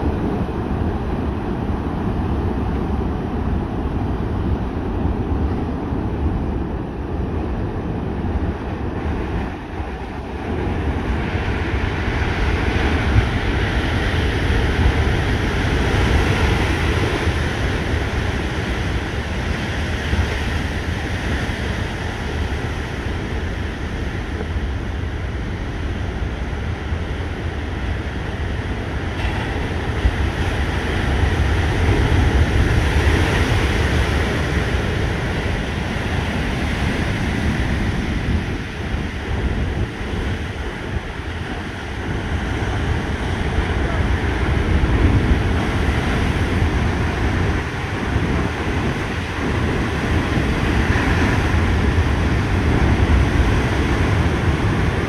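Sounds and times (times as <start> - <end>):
heavy surf breaking: 0.0 - 55.0
wind rumbling on microphone: 0.0 - 55.0.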